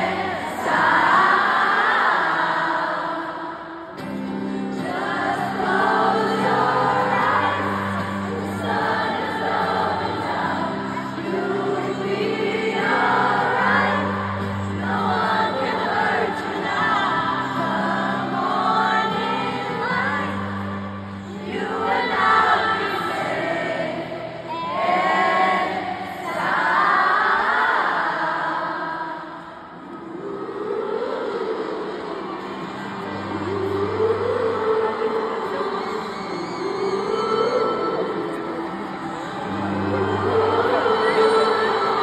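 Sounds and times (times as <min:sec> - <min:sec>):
acoustic guitar: 0:00.0 - 0:27.7, 0:29.4 - 0:42.0
crowd singing along: 0:00.0 - 0:42.0
woman singing: 0:00.0 - 0:42.0.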